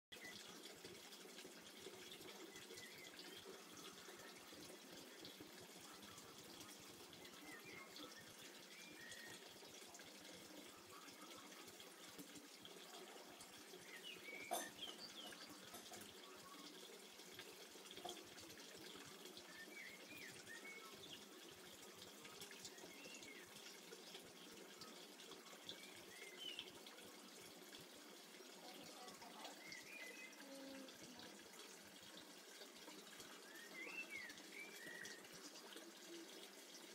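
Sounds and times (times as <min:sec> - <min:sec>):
water trickling and dripping: 0:00.1 - 0:36.9.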